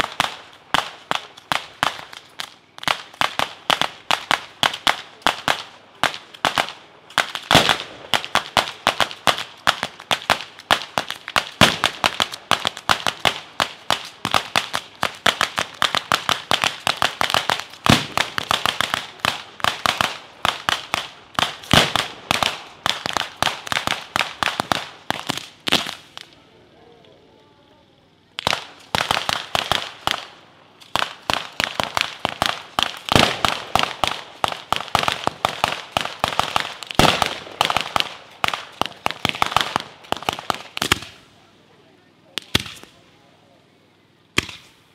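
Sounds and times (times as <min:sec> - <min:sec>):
firecrackers banging: 0:00.0 - 0:26.4, 0:28.2 - 0:41.5, 0:42.3 - 0:43.0, 0:44.4 - 0:44.9.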